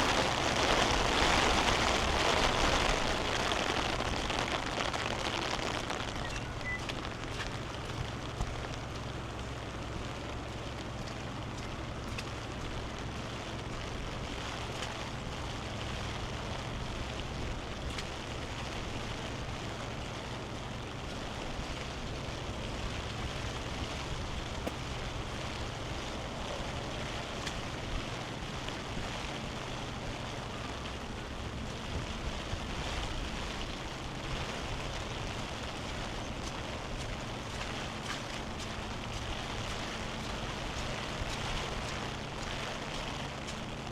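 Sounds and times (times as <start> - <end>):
heavy rain falling: 0.0 - 43.9
low rumble: 0.0 - 43.9.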